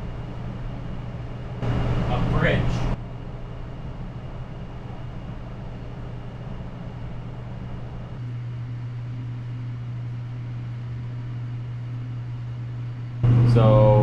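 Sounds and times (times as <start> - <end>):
kitchen machinery humming: 0.0 - 14.0.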